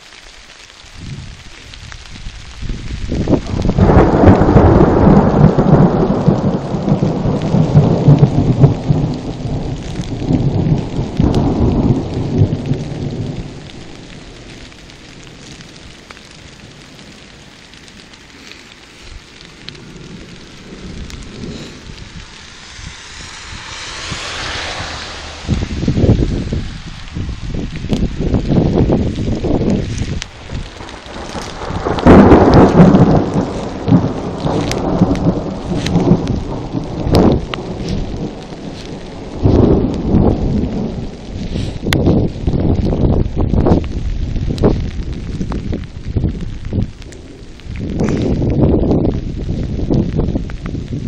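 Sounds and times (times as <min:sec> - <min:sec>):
rain hissing: 0:00.0 - 0:51.0
thunder rumbling: 0:00.0 - 0:51.0.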